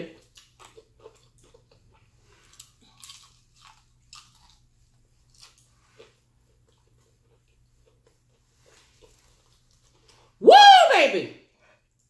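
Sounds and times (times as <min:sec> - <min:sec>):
crunching fried chicken: 0:00.0 - 0:10.4.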